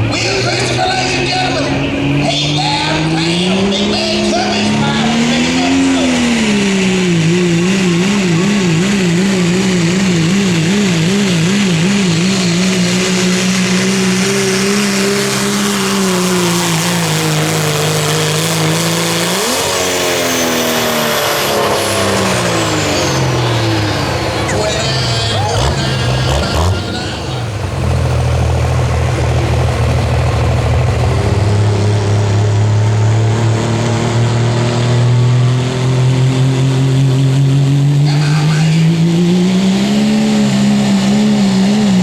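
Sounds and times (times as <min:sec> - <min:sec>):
truck engine at high revs: 0:00.0 - 0:42.0.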